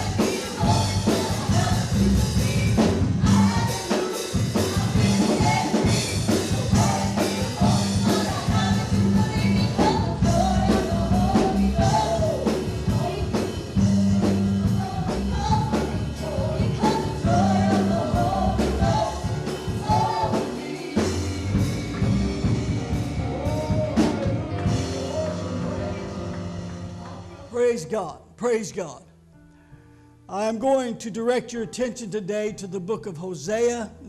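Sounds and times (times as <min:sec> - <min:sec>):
person singing: 0:00.0 - 0:27.5
drums beating: 0:00.0 - 0:27.6
gospel band playing: 0:00.0 - 0:29.0.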